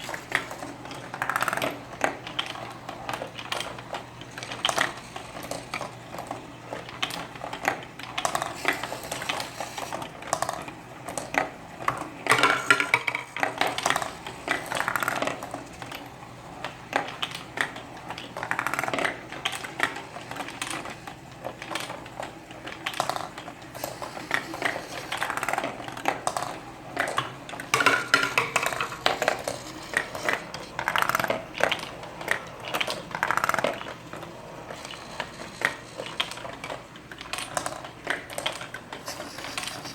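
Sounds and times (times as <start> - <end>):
marbles rolling and clattering: 0.0 - 16.0, 16.6 - 39.9.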